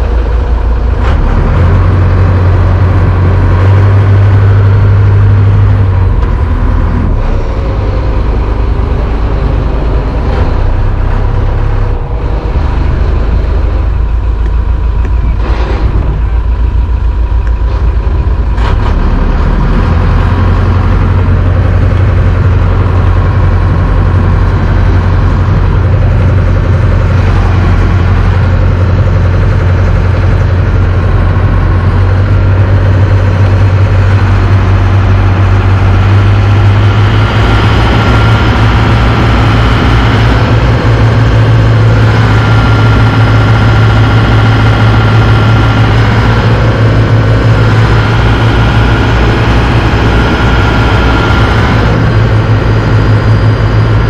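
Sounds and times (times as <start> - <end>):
towboat engine humming: 0.0 - 54.0.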